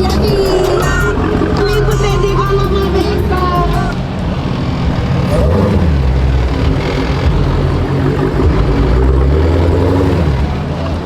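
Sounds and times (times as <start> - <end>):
low car engine rumble: 0.0 - 11.0.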